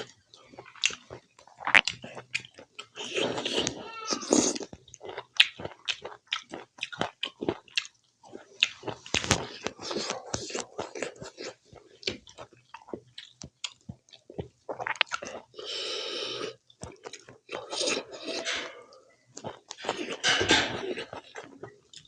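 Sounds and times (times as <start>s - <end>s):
person chewing and lip-smacking: 0.0s - 22.0s.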